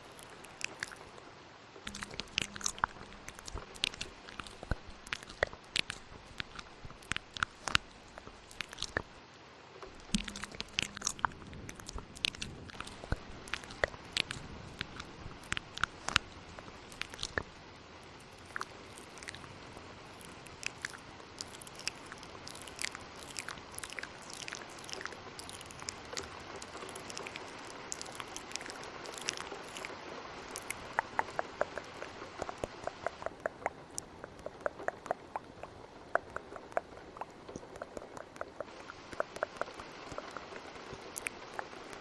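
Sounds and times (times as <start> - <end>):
wet mouth clicks and smacks: 0.0 - 1.1, 1.8 - 9.2, 9.8 - 42.0
rain hiss: 0.0 - 42.0.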